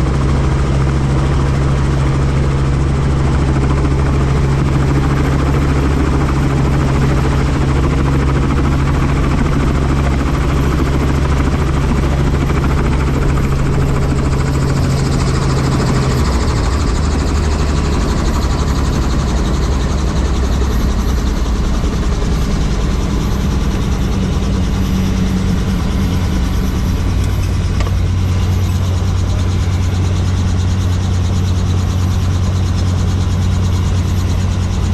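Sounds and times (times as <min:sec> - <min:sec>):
helicopter rotor chopping: 0:00.0 - 0:34.9.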